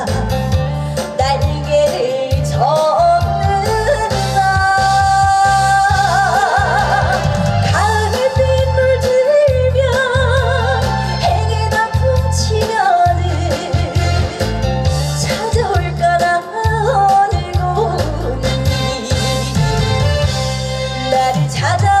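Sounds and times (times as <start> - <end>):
woman singing with vibrato: 0.0 - 19.6, 21.0 - 22.0
backing track with bass beat: 0.0 - 22.0.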